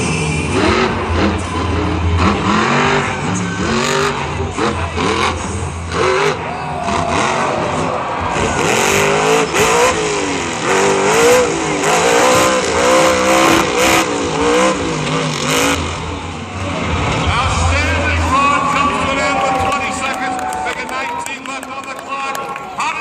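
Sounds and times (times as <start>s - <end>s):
truck engine revving: 0.0s - 22.1s.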